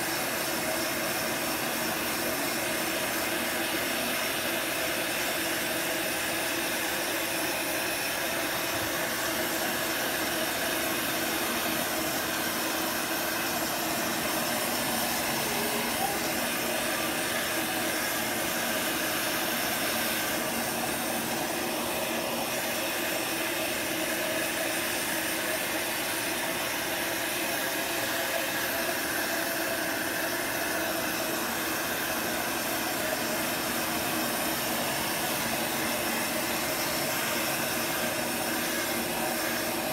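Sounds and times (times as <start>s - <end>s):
heat gun fan hissing: 0.0s - 39.9s.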